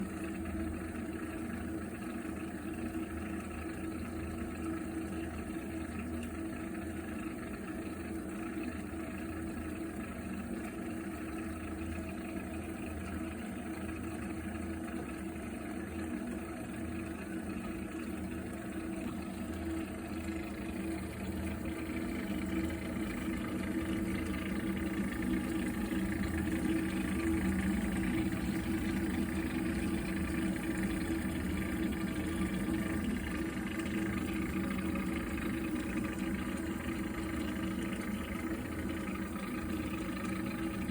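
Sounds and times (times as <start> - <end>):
boiler humming drone: 0.0 - 40.9.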